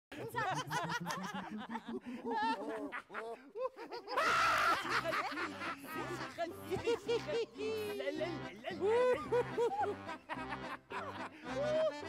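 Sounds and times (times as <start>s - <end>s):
people laughing theatrically: 0.1s - 12.0s.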